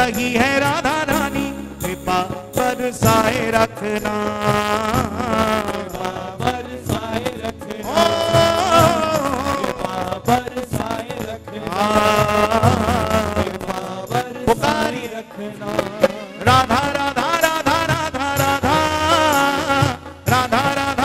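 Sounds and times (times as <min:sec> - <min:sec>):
instrumental accompaniment: 0:00.0 - 0:21.0
men singing devotional song: 0:00.0 - 0:21.0.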